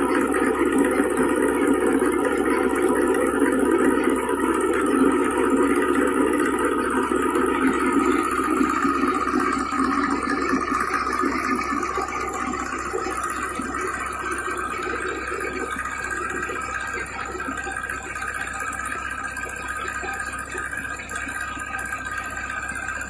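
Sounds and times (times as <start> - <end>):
tractor engine: 0.0 - 23.0.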